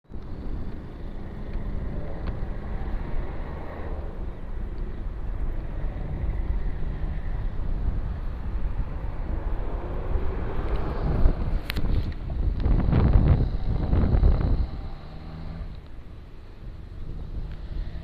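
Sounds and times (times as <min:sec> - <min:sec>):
motorcycle engine rumbling: 0:00.1 - 0:18.0
wind noise on microphone: 0:00.1 - 0:18.0.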